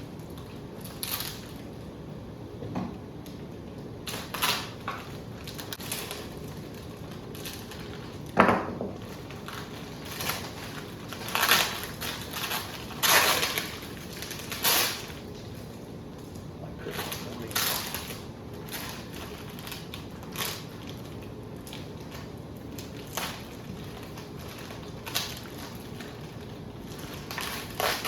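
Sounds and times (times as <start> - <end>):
packaging crinkling and rustling: 0.0 - 1.9, 3.3 - 28.0.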